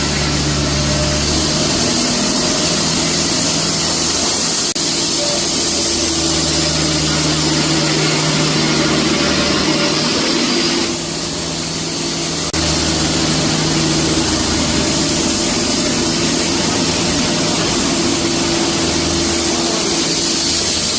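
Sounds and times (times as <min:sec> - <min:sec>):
loud hiss: 0:00.0 - 0:20.9
sawmill machine drone: 0:00.0 - 0:20.9.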